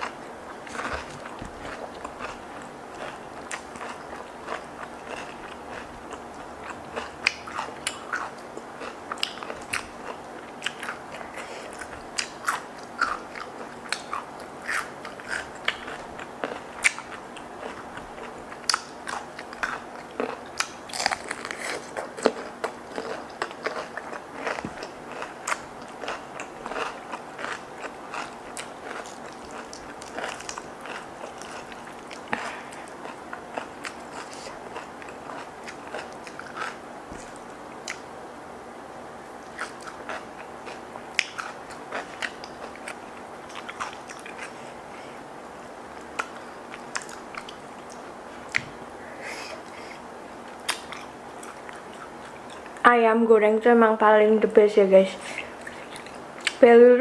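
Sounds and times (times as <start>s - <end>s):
crunching and chewing food: 0.0s - 38.4s, 39.0s - 52.9s, 55.2s - 56.6s.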